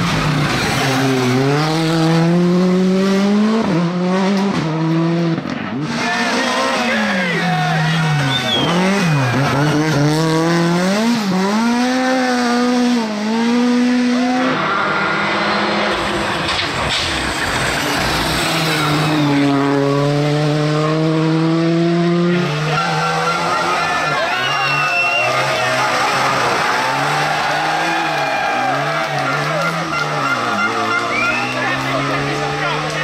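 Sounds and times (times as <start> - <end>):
rally car engine at full throttle: 0.0 - 33.0.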